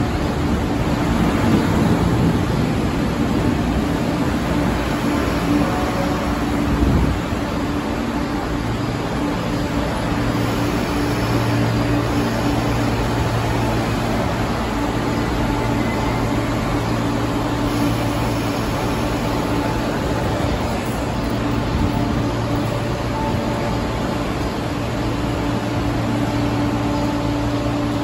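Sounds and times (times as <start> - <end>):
electric train humming and rumbling: 0.0 - 28.0.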